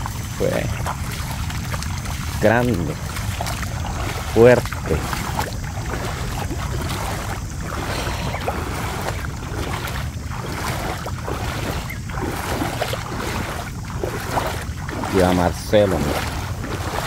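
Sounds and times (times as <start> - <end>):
feet splashing through water: 0.0 - 17.0
steady low rumble: 0.0 - 17.0.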